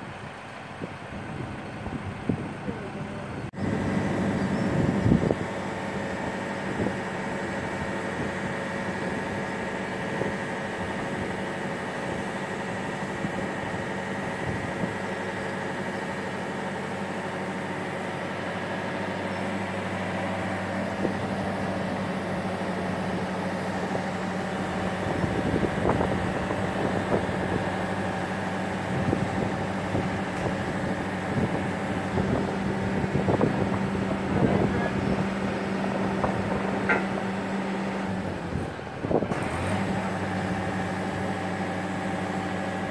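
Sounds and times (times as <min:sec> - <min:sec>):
travel lift engine running: 0:00.0 - 0:42.9.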